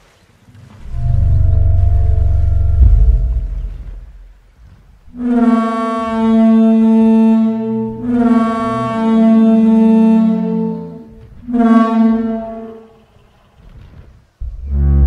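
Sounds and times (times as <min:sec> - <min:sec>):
long resonant animal calls: 0:00.9 - 0:13.5.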